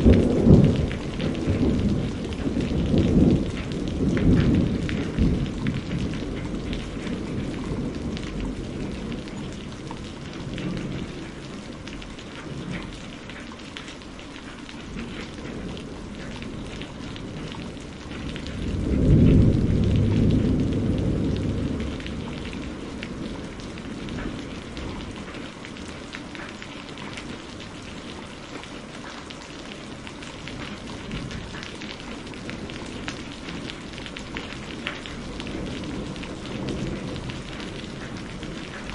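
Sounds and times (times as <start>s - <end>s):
heavy rain: 0.0s - 38.9s
thunder rumbling: 0.0s - 38.9s.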